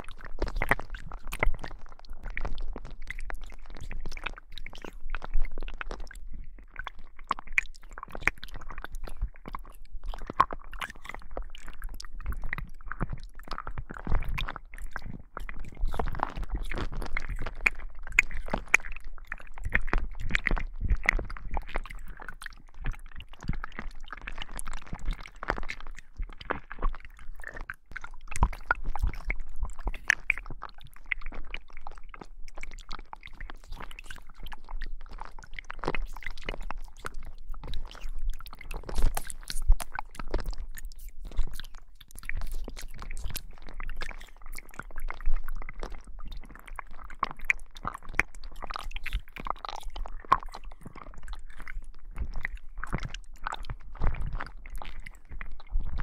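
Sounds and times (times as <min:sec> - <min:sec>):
crackling clicks and pops: 0:00.0 - 0:56.0
slime squelching: 0:00.0 - 0:56.0.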